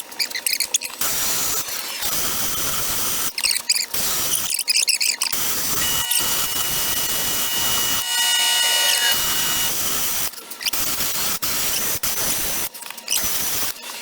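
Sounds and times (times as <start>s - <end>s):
rotary grinder grinding metal: 0.0s - 14.0s.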